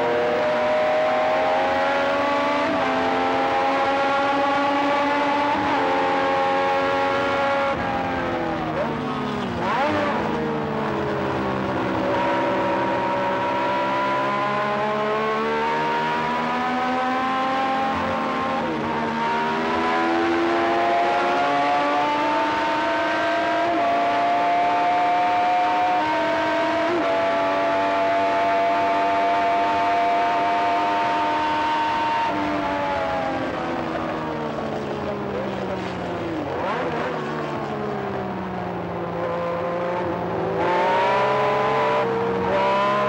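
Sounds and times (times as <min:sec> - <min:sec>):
racing car engine at full throttle: 0:00.0 - 0:43.0.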